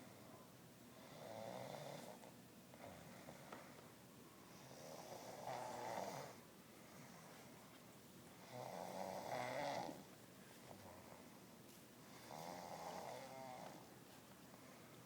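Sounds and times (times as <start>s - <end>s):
quiet breathing: 0.0s - 15.0s.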